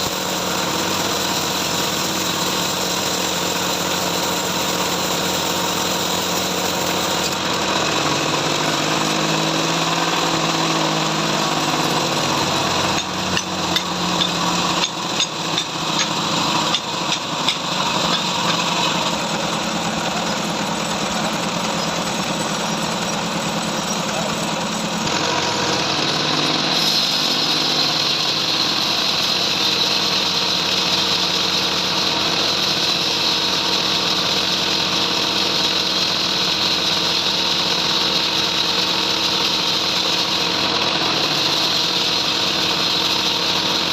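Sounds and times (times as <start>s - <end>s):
bandsaw sawing a log: 0.0s - 43.9s.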